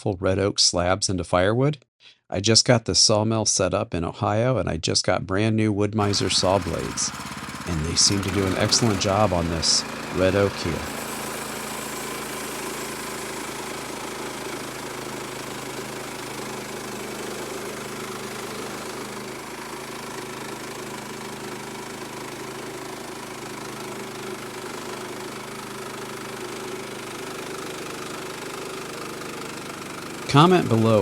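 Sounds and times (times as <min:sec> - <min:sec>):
sawmill engine running: 0:06.0 - 0:31.0.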